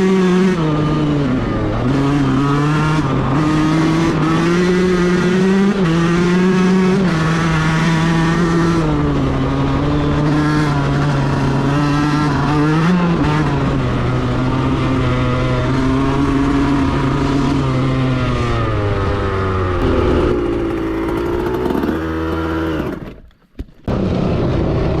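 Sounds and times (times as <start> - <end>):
two-stroke dirt bike engine revving: 0.0 - 23.2.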